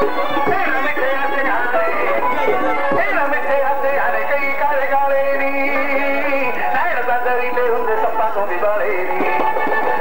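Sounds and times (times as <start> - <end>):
plucked string instrument melody: 0.0 - 7.0, 7.6 - 10.0
live folk band music: 0.0 - 10.0.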